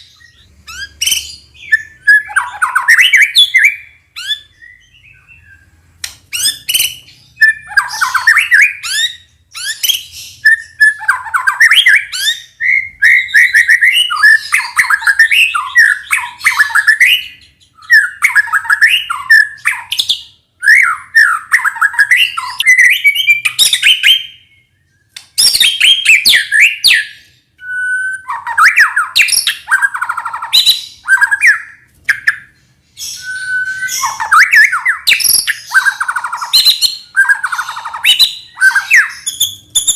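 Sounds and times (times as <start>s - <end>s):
songbird singing whistles and harsh notes: 0.0s - 39.9s.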